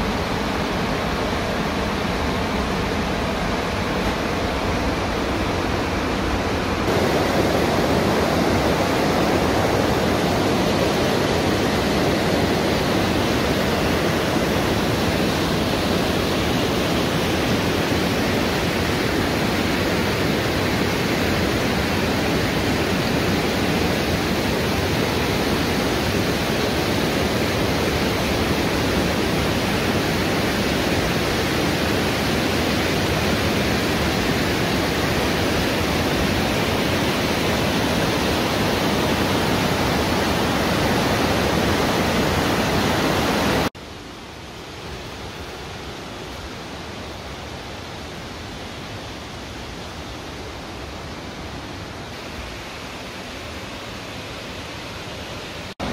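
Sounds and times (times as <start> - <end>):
river rushing over rocks: 0.0 - 55.9.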